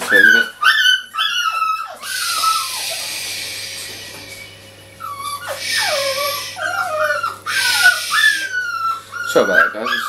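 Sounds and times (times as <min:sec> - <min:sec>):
puppies whining and yelping: 0:00.0 - 0:10.0.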